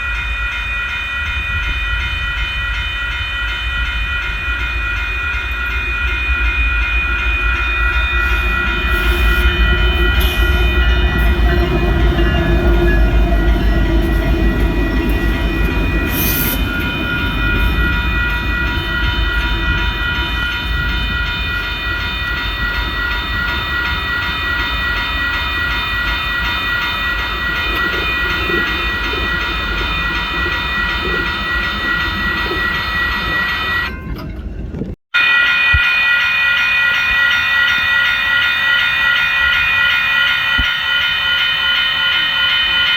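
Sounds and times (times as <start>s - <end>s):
high ringing tones: 0.0s - 34.6s, 35.2s - 42.9s
train rumbling on rails: 0.0s - 42.9s.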